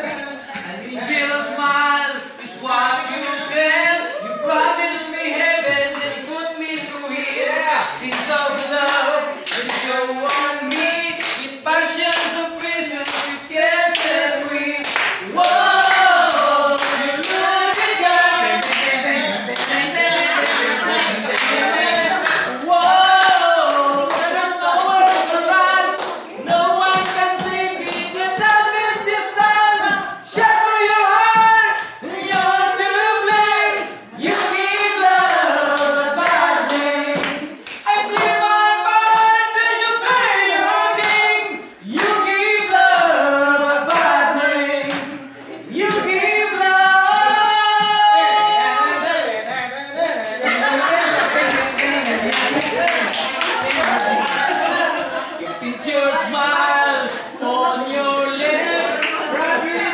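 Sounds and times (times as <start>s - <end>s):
men singing a cappella: 0.0s - 59.9s.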